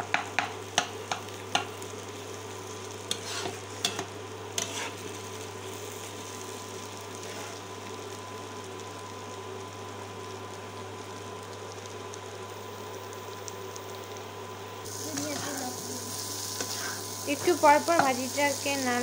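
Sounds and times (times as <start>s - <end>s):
faint frying sizzle: 0.0s - 19.0s
induction cooktop humming: 0.0s - 19.0s.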